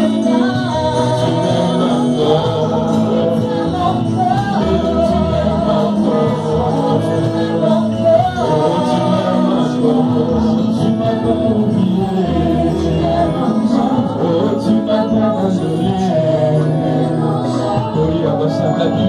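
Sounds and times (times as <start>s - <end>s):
woman singing into a microphone: 0.0s - 18.8s
instrumental accompaniment: 0.0s - 19.0s.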